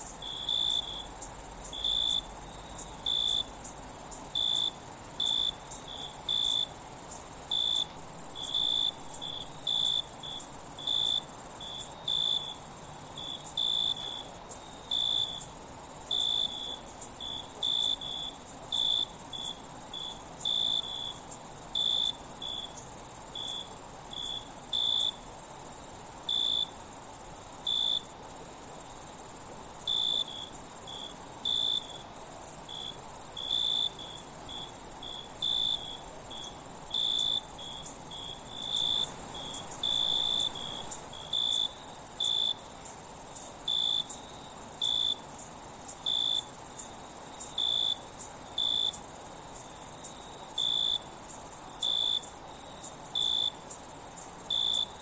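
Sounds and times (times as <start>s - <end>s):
crickets chirping: 0.0s - 55.0s
high-pitched insect trill: 0.0s - 55.0s.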